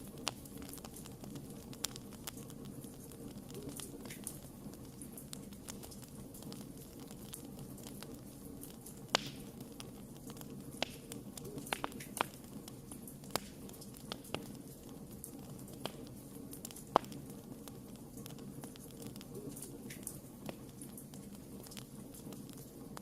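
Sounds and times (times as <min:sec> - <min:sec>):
campfire crackling with pops: 0:00.0 - 0:23.0.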